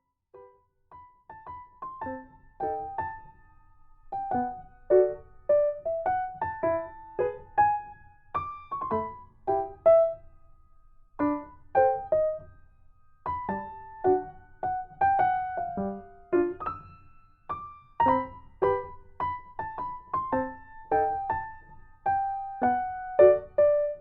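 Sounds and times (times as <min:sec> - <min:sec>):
light keyboard melody: 0:00.4 - 0:10.2, 0:11.2 - 0:12.6, 0:13.2 - 0:24.0.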